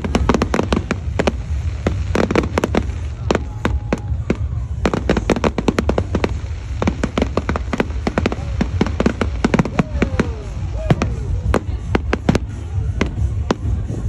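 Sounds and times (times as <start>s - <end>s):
fireworks bangs and crackles: 0.0s - 14.0s
steady low rumble: 0.0s - 14.0s.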